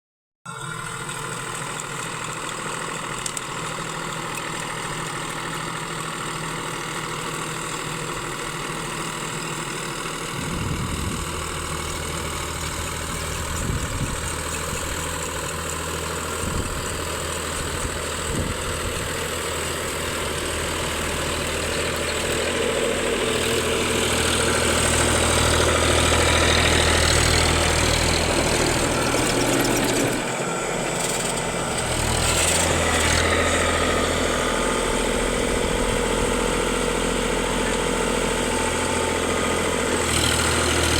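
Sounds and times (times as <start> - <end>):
tractor diesel engine running: 0.5 - 40.9.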